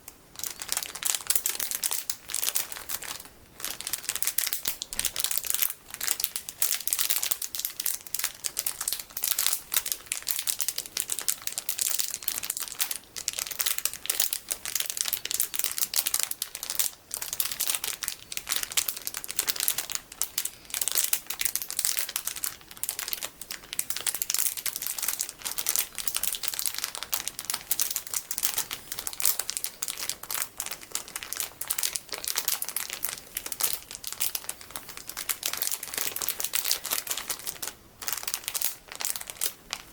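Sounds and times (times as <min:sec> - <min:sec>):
plastic packaging crinkling: 0:00.0 - 0:39.9.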